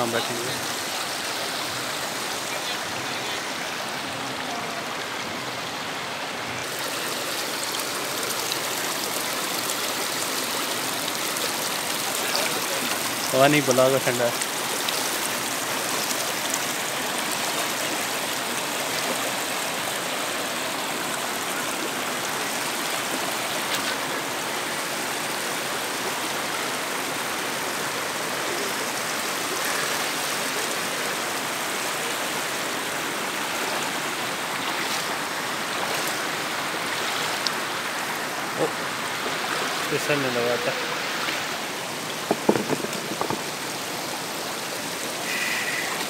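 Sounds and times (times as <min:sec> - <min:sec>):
stream running over stones: 0:00.0 - 0:46.0.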